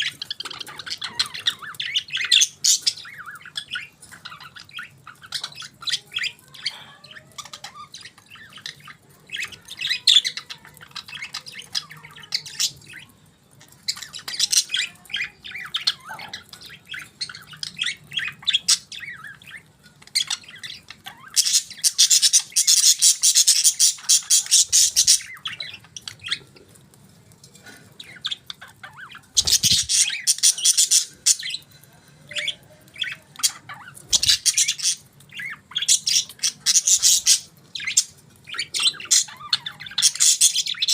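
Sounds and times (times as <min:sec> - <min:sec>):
budgerigars chirping and chattering: 0:00.0 - 0:26.8, 0:27.6 - 0:40.9.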